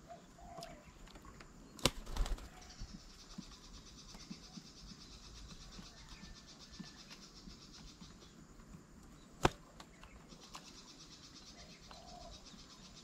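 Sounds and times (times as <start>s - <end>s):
pulsing insect chorus: 0.0s - 13.0s.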